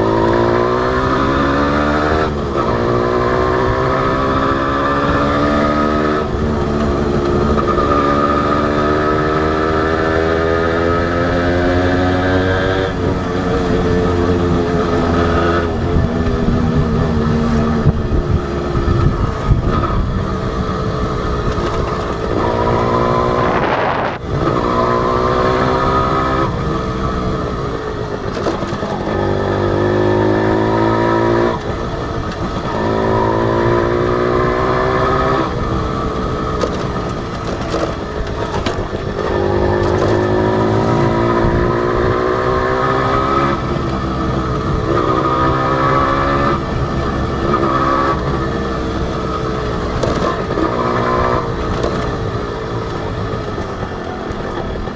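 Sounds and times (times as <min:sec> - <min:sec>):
motorcycle engine accelerating: 0:00.0 - 0:54.9
wind and road noise: 0:00.0 - 0:54.9.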